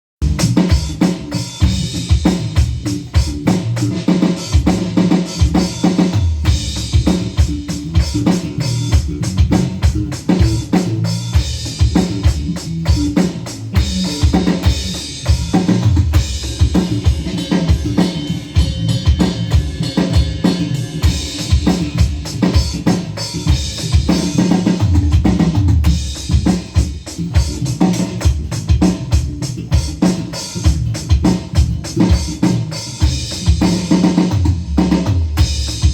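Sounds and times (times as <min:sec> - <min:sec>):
drum-heavy music with strong bass: 0:00.2 - 0:35.9.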